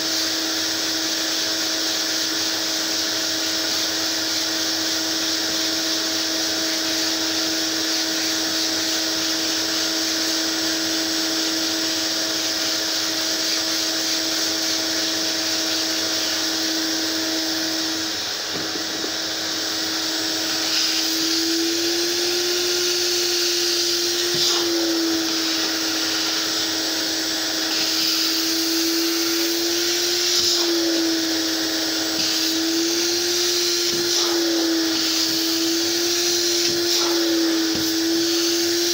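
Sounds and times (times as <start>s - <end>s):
vacuum motor hissing: 0.0s - 38.9s.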